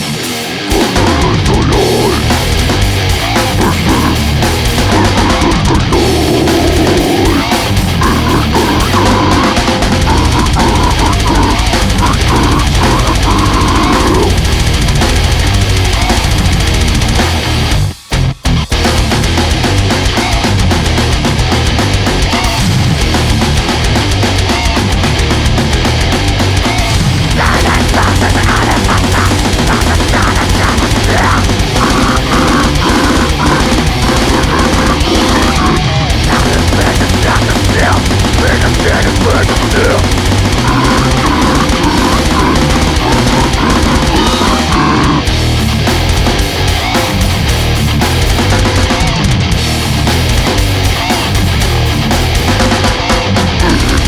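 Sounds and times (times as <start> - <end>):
distorted guitar riffing: 0.0 - 54.0
extreme metal music: 0.0 - 54.0
heavy drums: 0.0 - 54.0.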